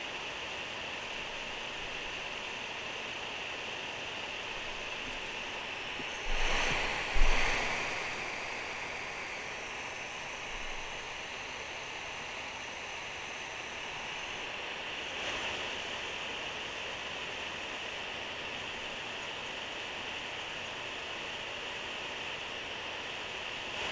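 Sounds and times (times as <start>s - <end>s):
steady hiss: 0.0s - 23.9s.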